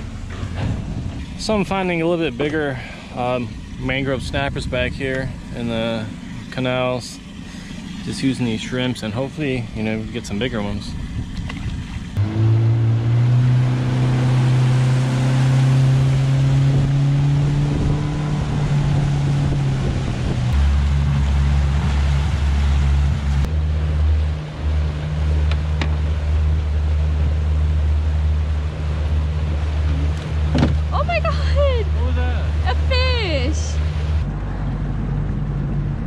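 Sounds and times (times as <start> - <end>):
outboard motor running: 0.0 - 36.0
water rushing along hull: 0.0 - 36.0
wind: 0.0 - 36.0.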